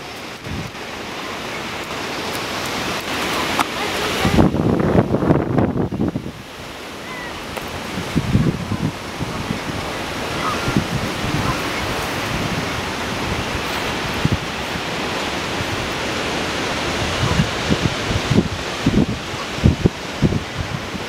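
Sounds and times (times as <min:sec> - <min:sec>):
storm wind blowing: 0:00.0 - 0:21.0
wind gusts buffeting microphone: 0:00.0 - 0:21.0.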